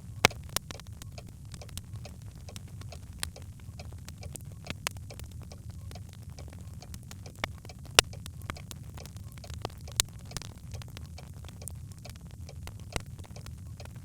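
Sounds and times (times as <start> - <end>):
logs crackling in a fireplace: 0.0 - 14.0.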